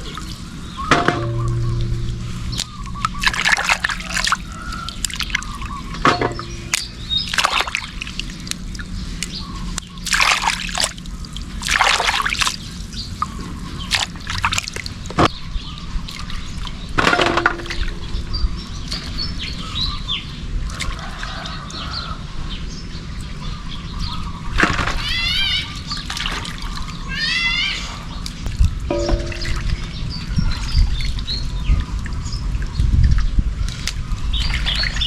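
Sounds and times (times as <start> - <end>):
water sloshing and splashing: 0.0 - 19.8, 24.6 - 27.4, 28.1 - 35.0.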